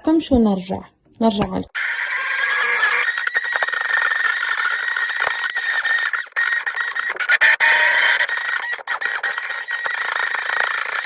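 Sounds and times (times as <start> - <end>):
electric mixer whining: 1.8 - 11.0.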